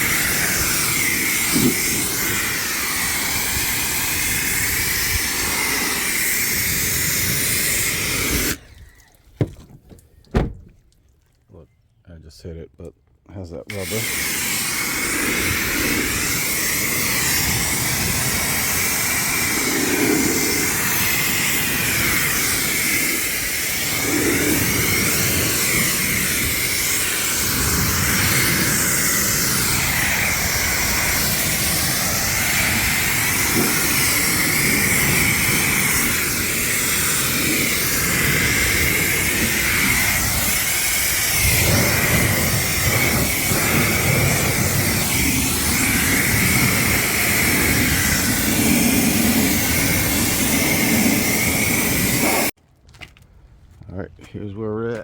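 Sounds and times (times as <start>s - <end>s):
pressure washer spraying: 0.0s - 8.6s, 13.7s - 52.6s.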